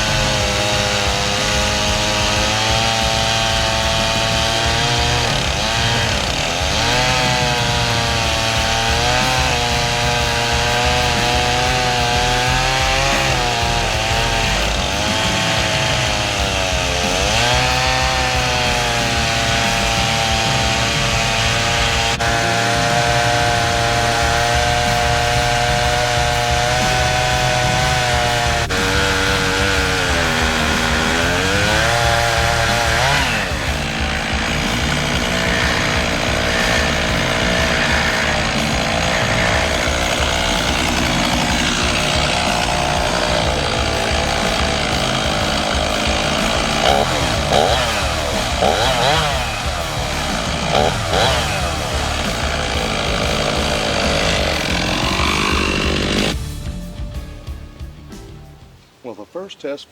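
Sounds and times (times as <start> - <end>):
chainsaw ripping through log: 0.0 - 56.4.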